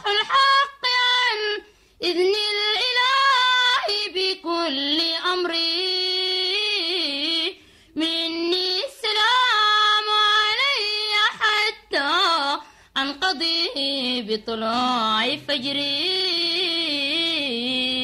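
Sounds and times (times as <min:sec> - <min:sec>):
woman singing unaccompanied: 0:00.0 - 0:18.0.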